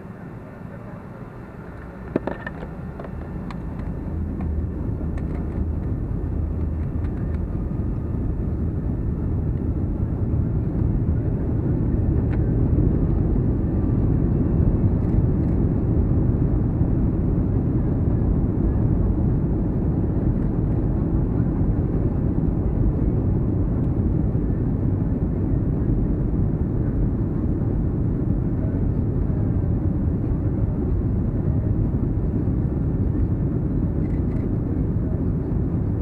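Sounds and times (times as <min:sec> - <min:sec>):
jet engine rumble inside cabin: 0:00.0 - 0:36.0.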